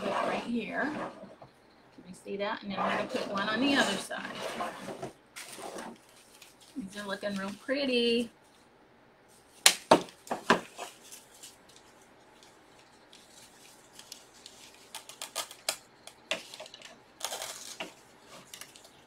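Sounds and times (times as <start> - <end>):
rustling of artificial flowers: 2.8 - 8.7, 9.3 - 19.0.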